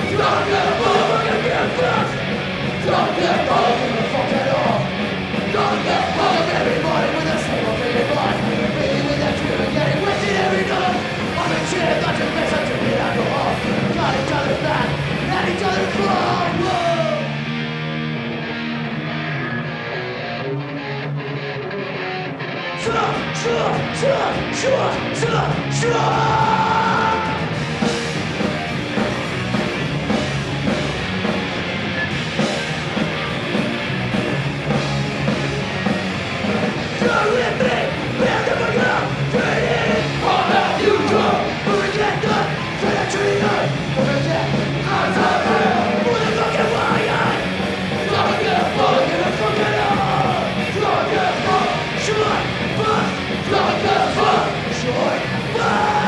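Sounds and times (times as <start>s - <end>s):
drums and cymbals: 0.0s - 17.3s, 22.9s - 56.0s
distorted electric guitar: 0.0s - 56.0s
punk rock band playing live: 0.0s - 56.0s.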